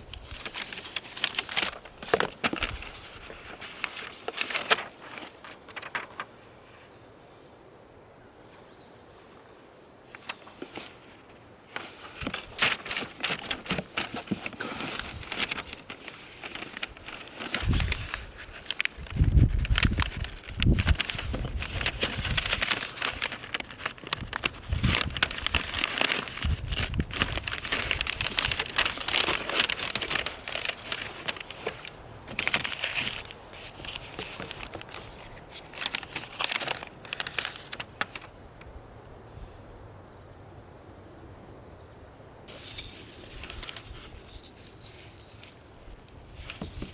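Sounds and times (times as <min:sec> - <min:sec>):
crinkling handling noise: 0:00.0 - 0:07.0, 0:08.5 - 0:38.7, 0:42.5 - 0:46.9.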